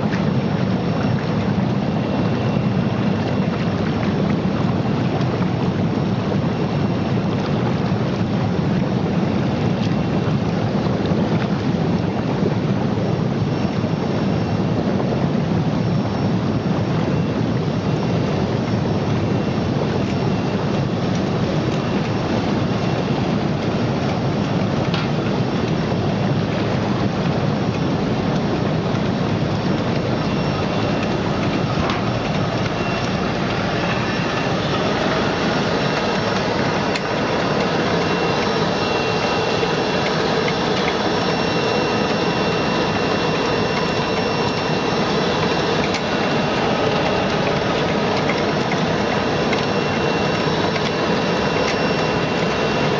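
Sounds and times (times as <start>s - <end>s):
churning water rushing: 0.0s - 52.9s.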